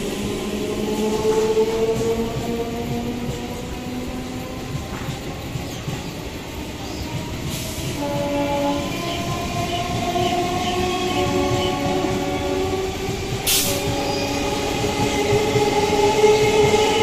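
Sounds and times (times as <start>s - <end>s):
electric train motors whining: 0.0s - 17.0s
train wheels rumbling: 0.0s - 17.0s.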